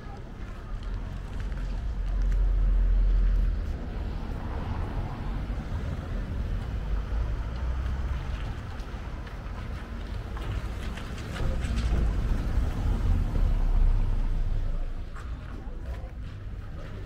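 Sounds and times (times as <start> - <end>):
low street rumble: 0.0 - 17.0.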